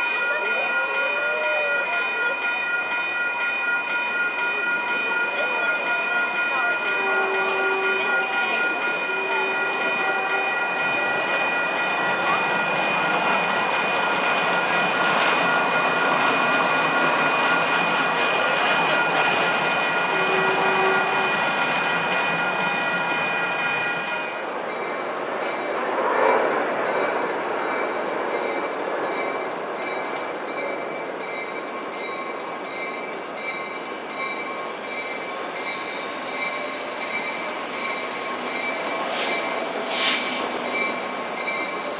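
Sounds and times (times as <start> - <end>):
crossing warning bells ringing: 0.0 - 41.9
train wheels squealing: 6.8 - 41.9.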